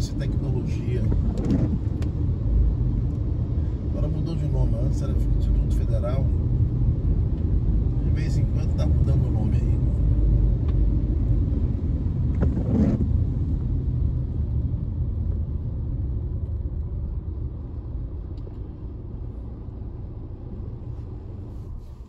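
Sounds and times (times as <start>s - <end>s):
car engine and tyres on wet road: 0.0s - 22.0s.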